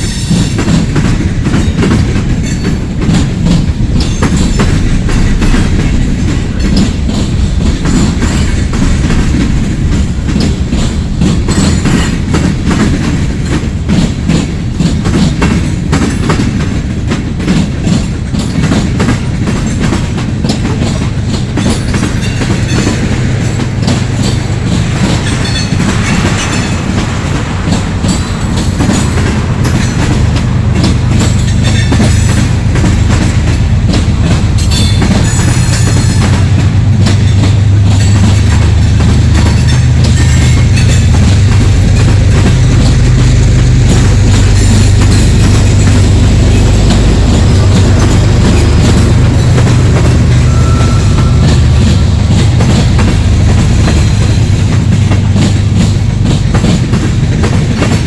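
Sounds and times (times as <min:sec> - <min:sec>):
train wheels clattering over rail joints: 0:00.0 - 0:58.0.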